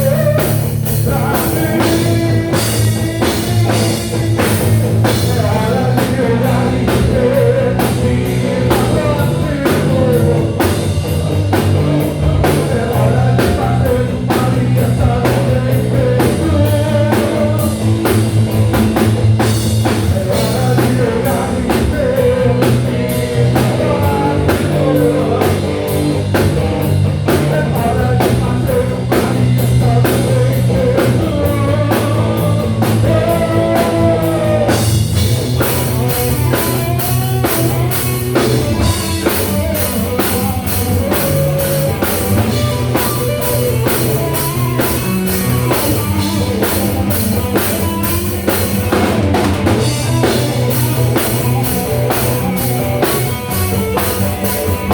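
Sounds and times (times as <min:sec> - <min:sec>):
bass notes: 0:00.0 - 0:54.9
drum kit beat: 0:00.0 - 0:54.9
electric guitar: 0:00.0 - 0:54.9.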